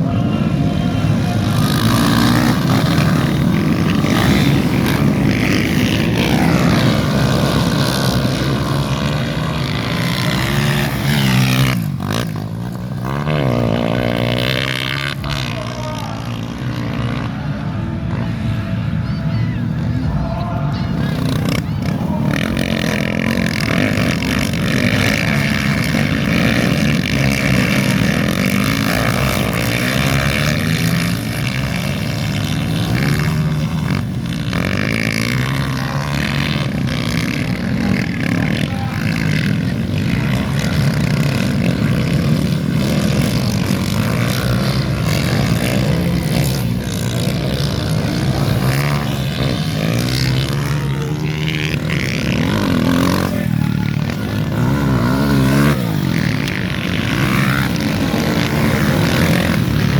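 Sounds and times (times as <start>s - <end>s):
dirt bike engines racing: 0.0s - 59.9s.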